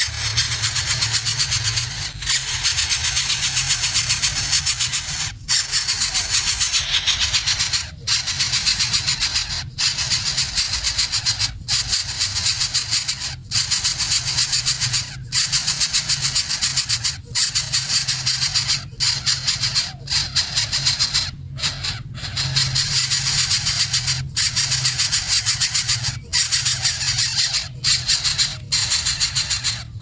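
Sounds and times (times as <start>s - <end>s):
baby birds begging calls: 0.0s - 30.0s.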